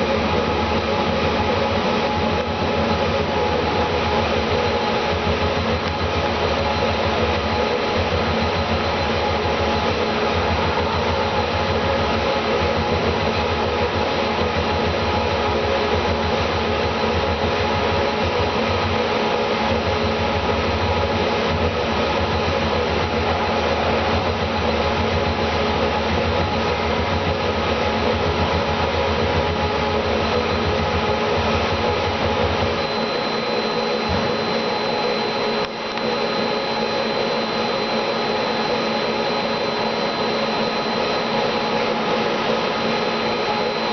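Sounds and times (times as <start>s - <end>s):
machine noise: 0.0s - 43.9s.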